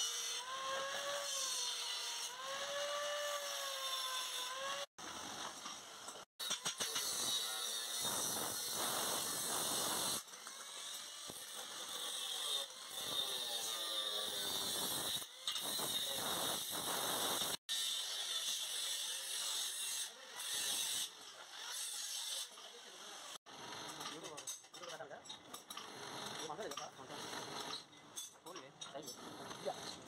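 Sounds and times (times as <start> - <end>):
angle grinder cutting metal: 0.0 - 30.0.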